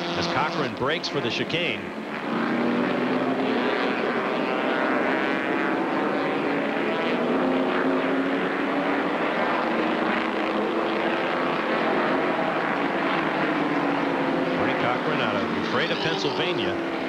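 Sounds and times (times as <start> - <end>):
race car engine droning: 0.0 - 17.0.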